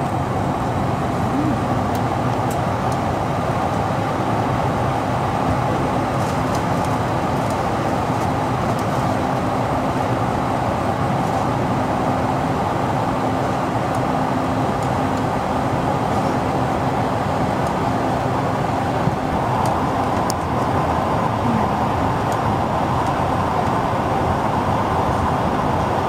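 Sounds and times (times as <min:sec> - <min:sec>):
airliner cabin drone: 0:00.0 - 0:26.0
constant low hum: 0:00.0 - 0:26.0.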